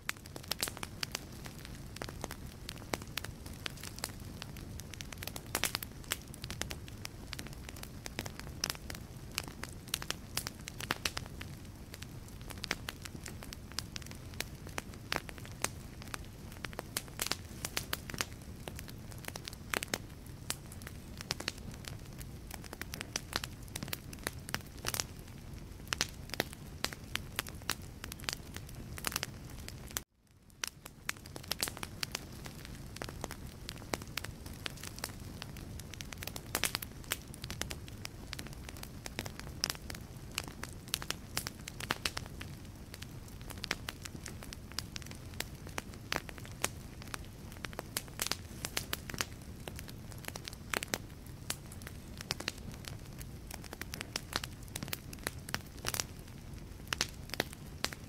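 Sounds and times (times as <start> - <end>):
burning logs crackling and popping: 0.0 - 58.0
low rumble of flames: 0.0 - 58.0.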